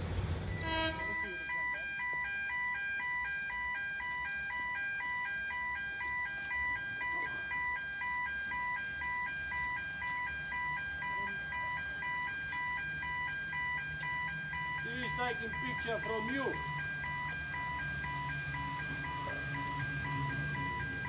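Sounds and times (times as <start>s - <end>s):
level crossing two-tone warning bell: 0.5s - 21.0s.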